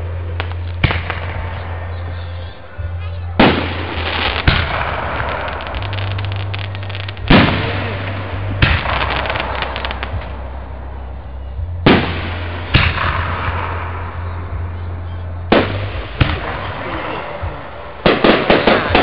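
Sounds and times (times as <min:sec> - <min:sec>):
firework booms: 0:00.0 - 0:02.5, 0:03.3 - 0:10.8, 0:11.6 - 0:14.8, 0:15.5 - 0:19.0
crackling firework reports: 0:00.0 - 0:19.0.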